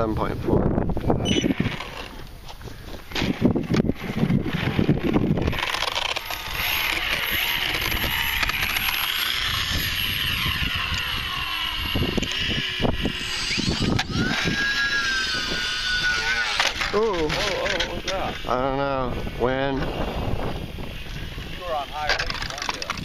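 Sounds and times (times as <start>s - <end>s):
rc plane motors whining: 0.8s - 23.0s.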